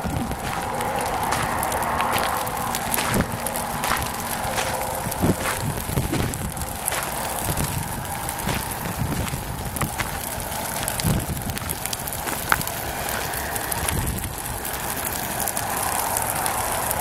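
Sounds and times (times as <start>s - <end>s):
brush fire crackling: 0.0s - 17.0s
wind on microphone: 0.0s - 17.0s.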